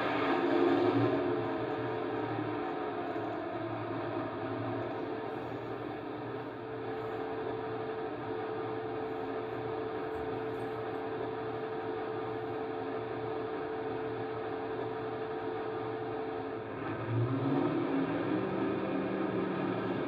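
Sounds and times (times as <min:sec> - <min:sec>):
model locomotive humming: 0:00.0 - 0:20.0.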